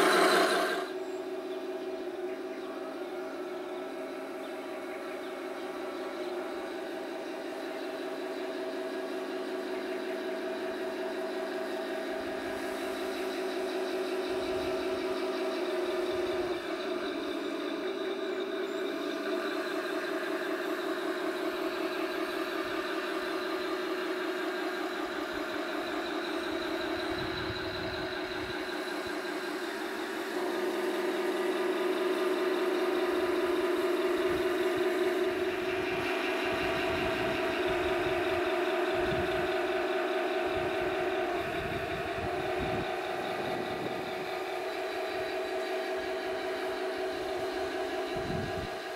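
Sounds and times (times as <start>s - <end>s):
simulated tank engine hum: 0.0s - 48.9s.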